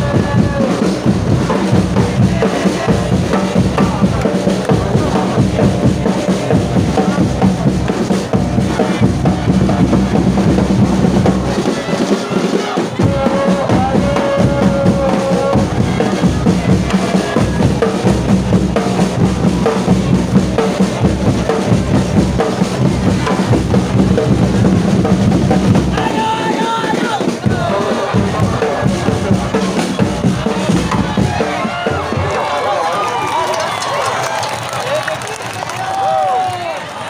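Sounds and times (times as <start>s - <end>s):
crowd singing: 0.0s - 33.1s
drums beating fast rhythm: 0.0s - 36.7s.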